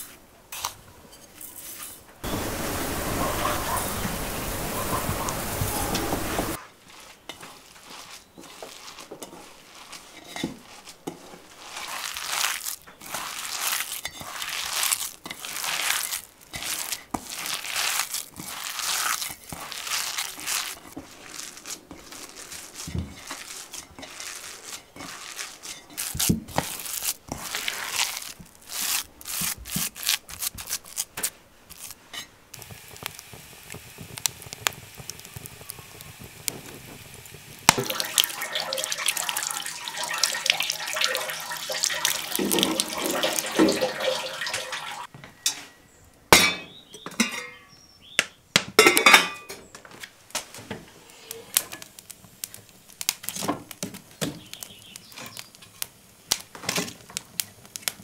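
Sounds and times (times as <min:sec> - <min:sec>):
rustling and crinkling: 0:00.0 - 0:45.8, 0:49.5 - 0:58.0.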